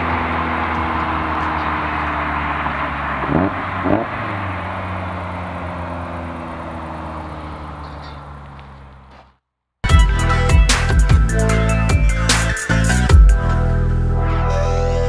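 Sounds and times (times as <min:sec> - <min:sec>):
car engine running: 0:00.0 - 0:13.8
road noise: 0:00.0 - 0:14.7.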